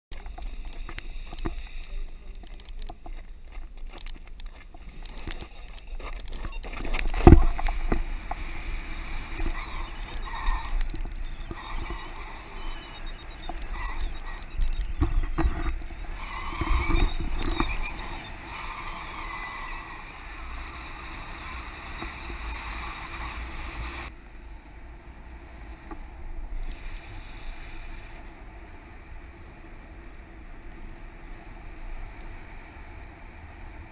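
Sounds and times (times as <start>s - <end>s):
wind buffeting microphone: 0.4s - 28.4s.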